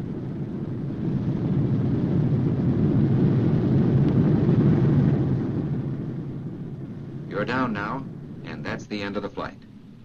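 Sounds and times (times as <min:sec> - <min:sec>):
propeller aircraft engines rumbling: 0:00.0 - 0:10.0.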